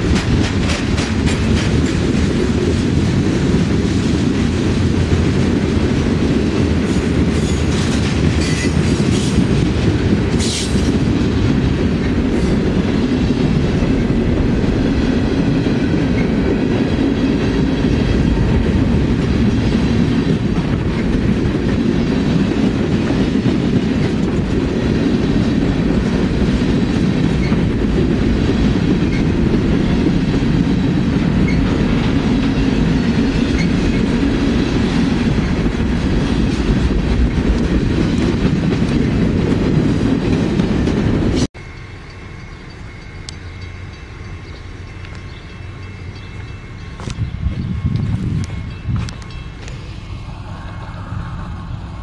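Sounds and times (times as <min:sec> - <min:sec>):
freight train wheels on rail: 0:00.0 - 0:52.0.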